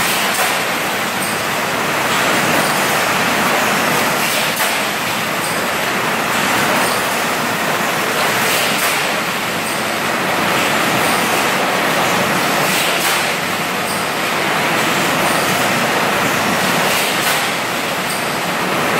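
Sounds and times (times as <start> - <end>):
water jets and machinery hissing: 0.0 - 18.9.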